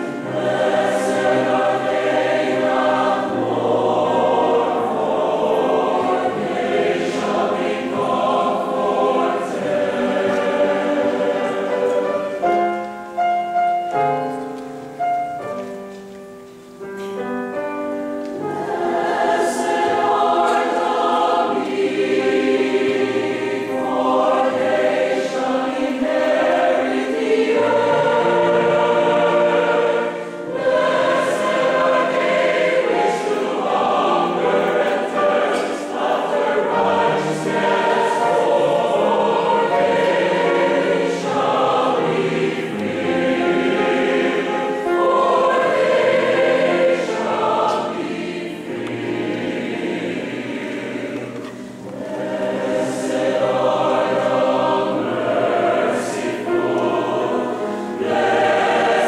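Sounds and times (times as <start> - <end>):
mixed choir singing: 0.0 - 13.4, 17.7 - 59.0.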